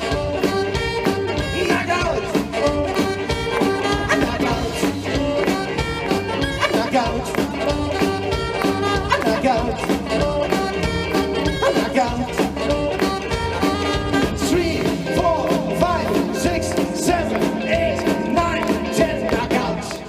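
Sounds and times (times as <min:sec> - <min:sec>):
live rock and roll band playing: 0:00.0 - 0:20.0.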